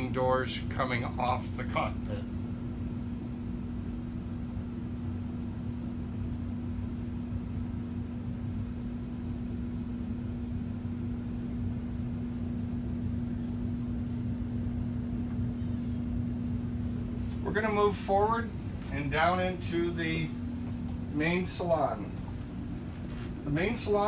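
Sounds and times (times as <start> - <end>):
machine hum with low tone: 0.0 - 24.0
low rumbling noise: 4.1 - 24.0.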